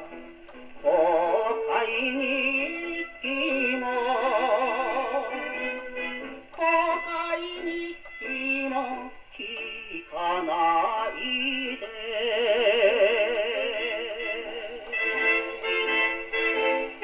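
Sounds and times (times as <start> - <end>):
song on gramophone record: 0.0 - 17.0
singing with heavy vibrato: 0.8 - 17.0.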